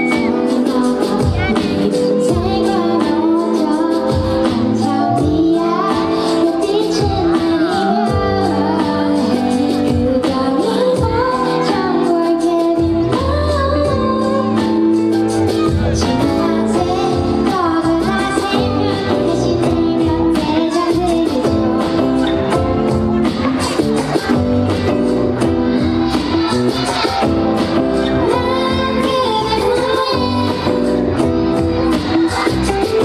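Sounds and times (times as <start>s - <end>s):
woman singing into microphone: 0.0s - 23.4s, 24.0s - 33.0s
pop backing music with beat: 0.0s - 33.0s.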